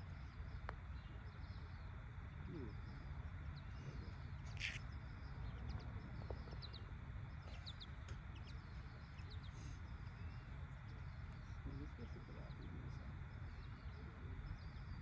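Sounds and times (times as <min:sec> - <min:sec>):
low rumble of wind: 0:00.0 - 0:15.0
small birds chirping: 0:00.0 - 0:15.0.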